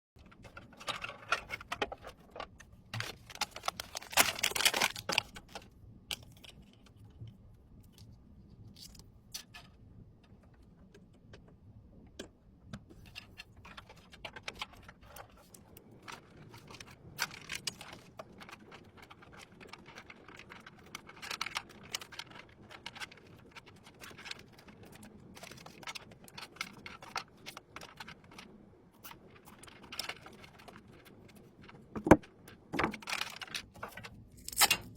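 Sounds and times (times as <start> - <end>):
computer parts clicking and rattling: 0.2 - 6.6, 12.1 - 34.9.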